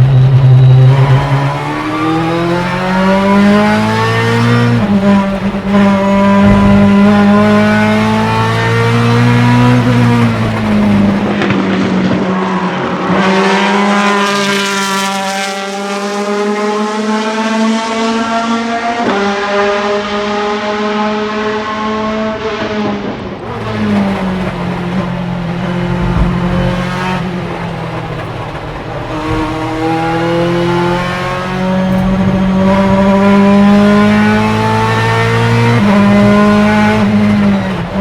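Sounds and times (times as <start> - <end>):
racing car engine revving: 0.0 - 38.0.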